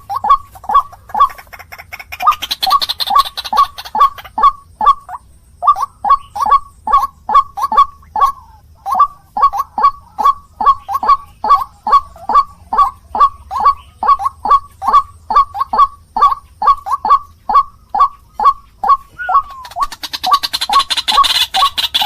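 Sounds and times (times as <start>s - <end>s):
bird calling harsh notes: 0.0s - 22.0s.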